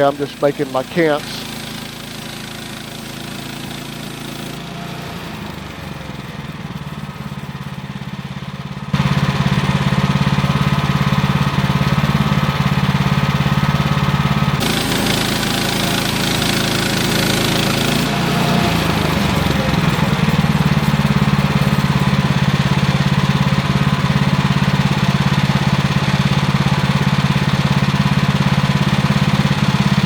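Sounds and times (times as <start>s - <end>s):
sawmill engine running: 0.0s - 30.0s.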